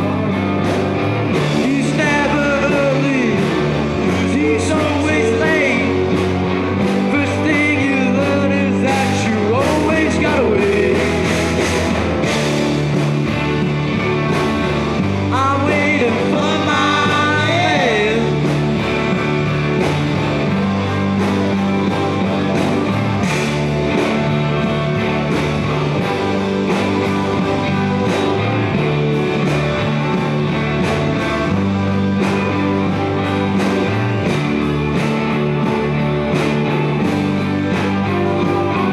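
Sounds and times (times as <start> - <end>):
live rock band playing: 0.0 - 38.9
sliding guitar lead line: 0.0 - 38.9.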